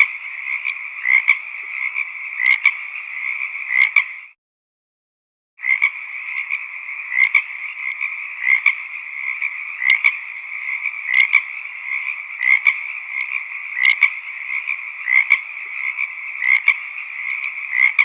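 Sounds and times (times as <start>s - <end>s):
frogs croaking: 0.0s - 4.4s, 5.6s - 18.0s.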